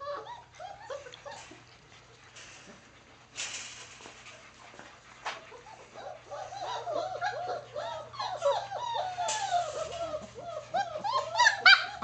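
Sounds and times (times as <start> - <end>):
puppies whimpering and yipping: 0.0 - 3.3, 4.2 - 12.0.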